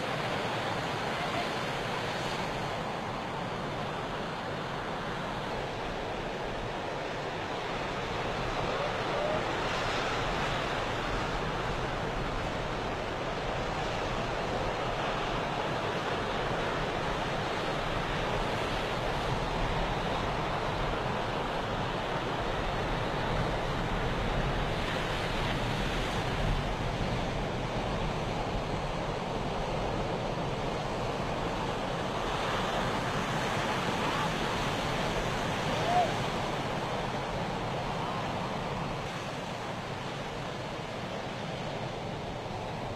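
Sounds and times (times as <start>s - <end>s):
sea waves washing on shore: 0.0s - 42.9s.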